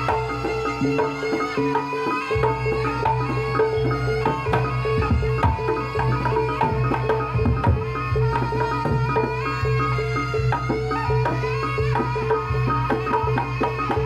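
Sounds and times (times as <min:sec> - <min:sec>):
hand drums playing: 0:00.0 - 0:14.0
ringing gamelan tones: 0:00.0 - 0:14.0.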